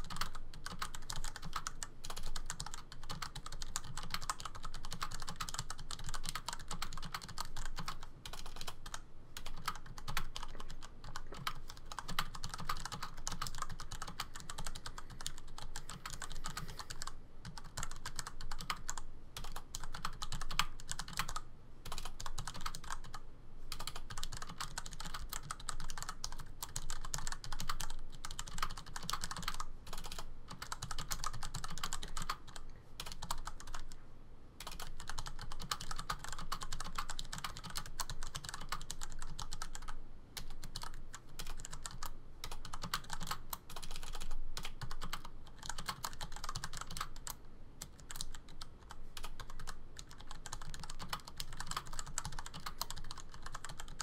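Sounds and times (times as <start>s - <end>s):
keyboard typing clatter: 0.0s - 34.0s, 34.6s - 54.0s.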